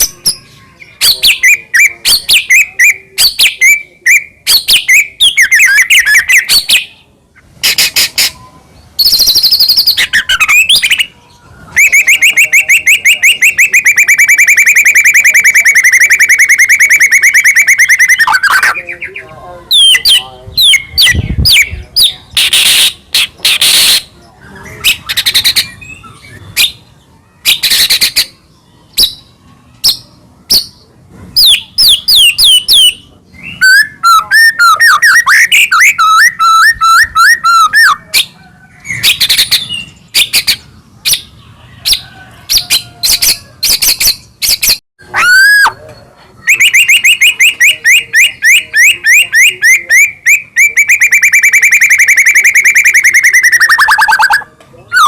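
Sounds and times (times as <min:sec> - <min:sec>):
songbird singing whistled phrases: 0:00.0 - 0:07.0, 0:07.6 - 0:30.8, 0:31.4 - 0:55.0.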